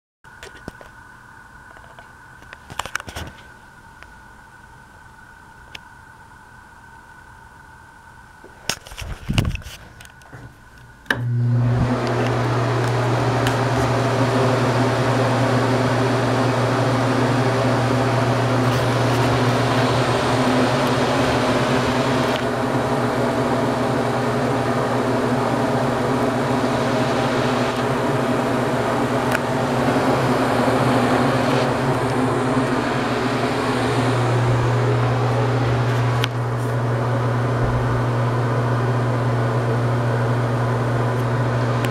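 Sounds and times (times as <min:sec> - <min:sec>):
exhaust fan motor hum: 0:00.3 - 0:41.9.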